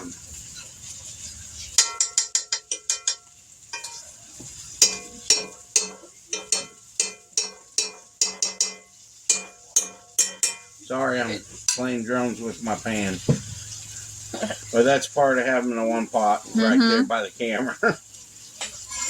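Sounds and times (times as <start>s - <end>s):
metal utensil clinking on skillet: 0.0s - 15.1s, 18.1s - 19.0s
oil sizzling: 0.0s - 19.0s.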